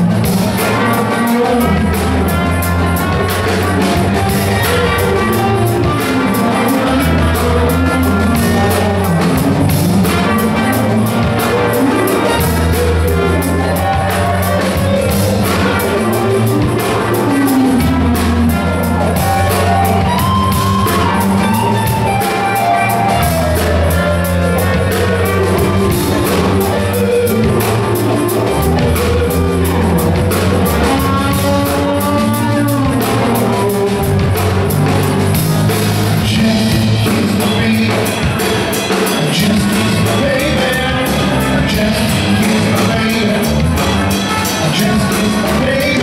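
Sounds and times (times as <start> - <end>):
funk band playing: 0.0 - 46.0
trumpet melody: 0.0 - 46.0.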